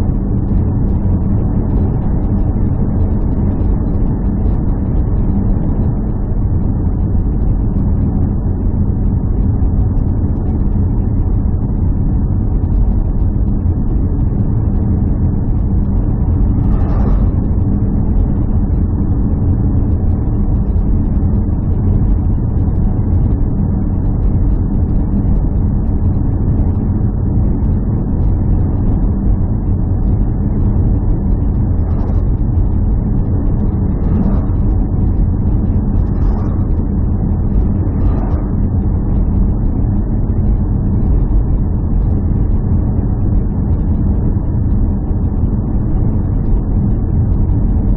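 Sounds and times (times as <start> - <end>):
engine drone with low rumble: 0.0 - 47.9.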